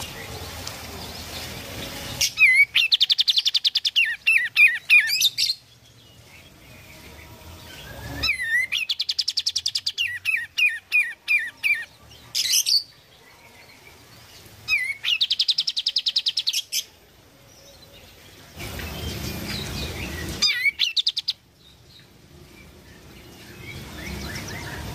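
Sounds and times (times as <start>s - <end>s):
bird chattering song: 2.1s - 13.0s, 13.7s - 16.9s, 17.6s - 24.9s.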